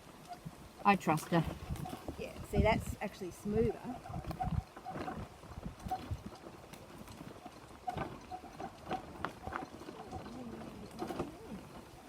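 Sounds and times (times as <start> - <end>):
wheelchair rattling over bumpy track: 0.0 - 12.0.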